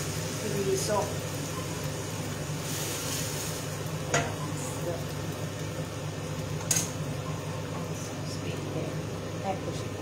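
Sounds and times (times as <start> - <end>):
liquid sizzling: 0.0 - 10.0.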